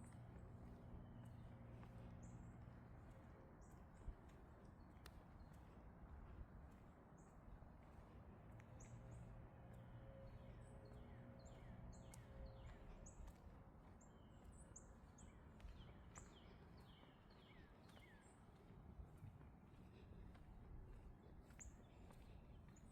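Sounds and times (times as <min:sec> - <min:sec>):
faint outdoor background noise: 0:00.0 - 0:22.9.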